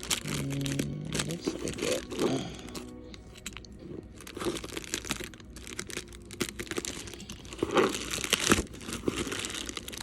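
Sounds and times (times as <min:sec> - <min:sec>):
package crinkling and rustling: 0:00.0 - 0:10.0.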